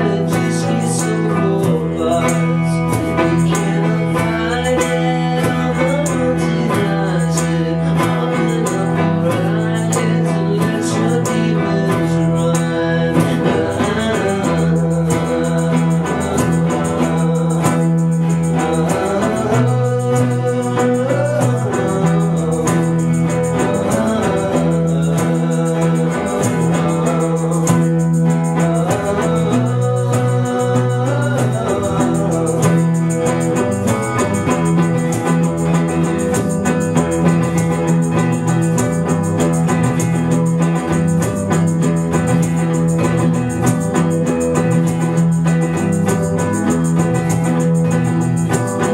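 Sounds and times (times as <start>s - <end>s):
bass line: 0.0s - 48.9s
guitars: 0.0s - 48.9s
live rock band playing: 0.0s - 48.9s.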